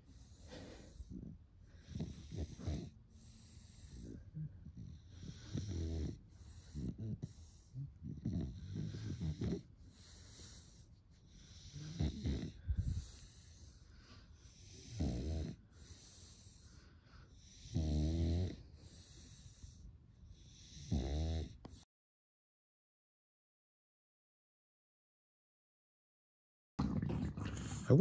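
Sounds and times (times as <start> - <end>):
dog snoring: 0.1 - 21.8, 26.8 - 28.0.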